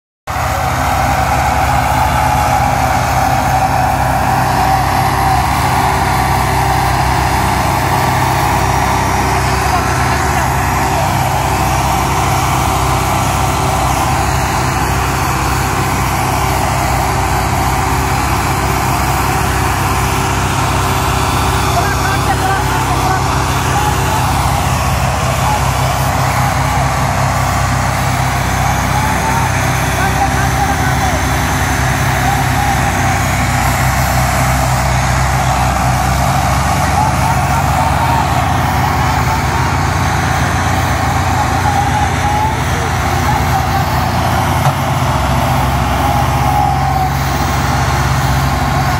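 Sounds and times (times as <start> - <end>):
tractor diesel engine running: 0.3 - 48.9.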